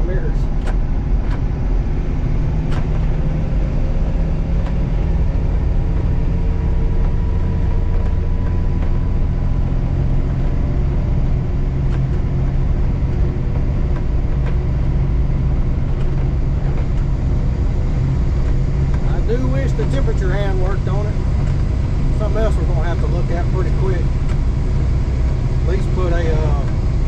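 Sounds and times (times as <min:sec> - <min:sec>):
diesel truck engine droning: 0:00.0 - 0:27.0.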